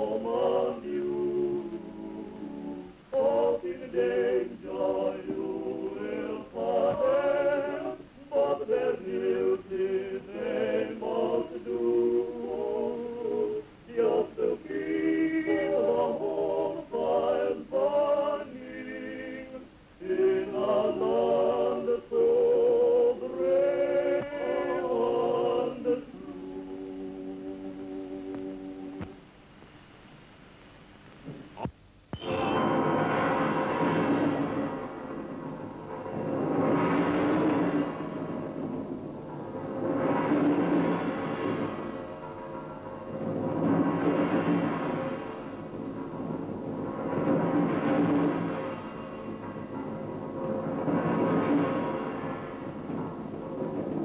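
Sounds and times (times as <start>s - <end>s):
choir singing in harmony: 0.0s - 29.2s, 32.2s - 54.0s.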